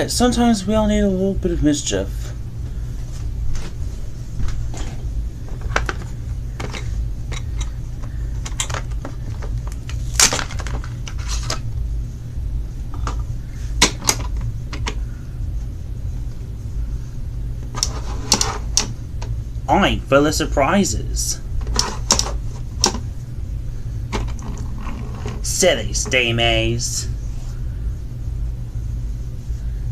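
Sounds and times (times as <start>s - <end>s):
low hum: 0.0s - 29.9s.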